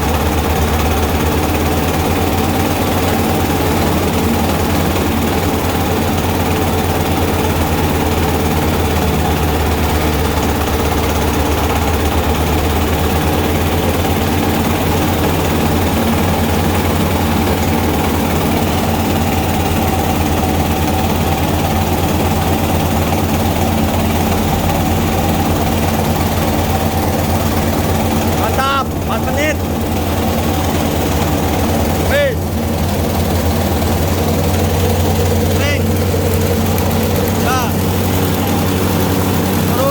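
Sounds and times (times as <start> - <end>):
milling machine engine droning: 0.0 - 39.9.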